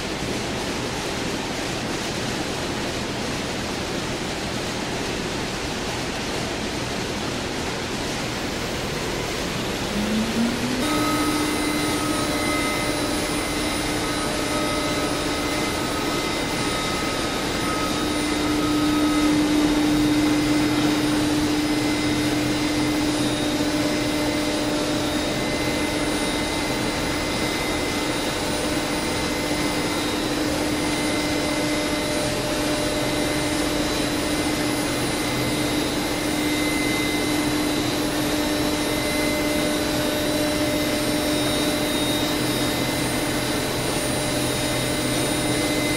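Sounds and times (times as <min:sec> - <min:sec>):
vacuum pumps rushing: 0:00.0 - 0:45.9
router spindle whine: 0:08.4 - 0:45.9.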